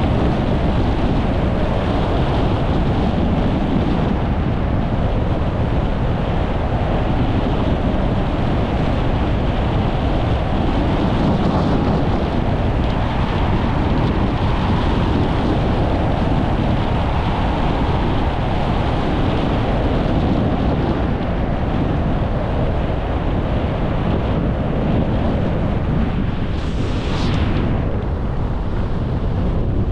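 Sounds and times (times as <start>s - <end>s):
wind rushing over microphone: 0.0s - 29.9s.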